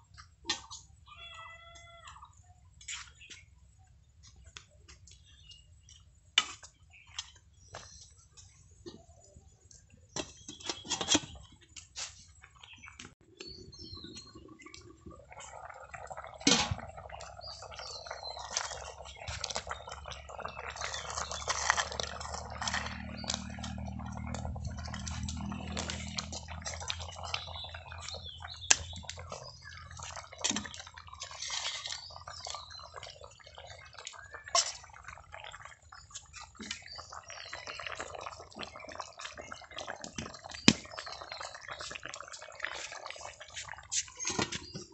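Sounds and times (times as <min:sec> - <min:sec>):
curry bubbling and sizzling: 0:01.6 - 0:44.9.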